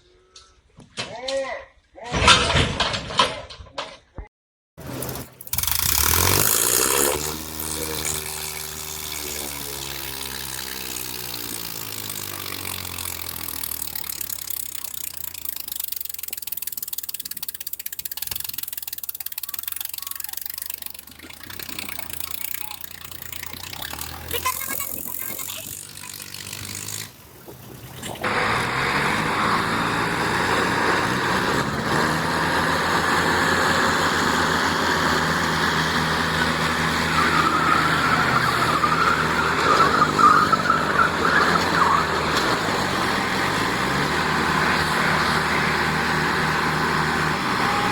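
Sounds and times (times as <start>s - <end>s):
tractor engine running: 4.8s - 47.9s.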